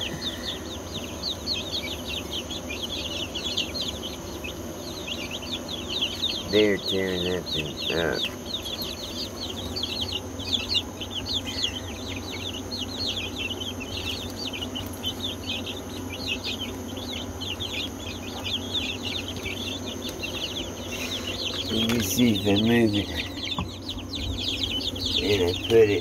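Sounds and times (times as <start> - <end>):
chicks peeping: 0.0 - 26.0
low hum: 0.0 - 26.0.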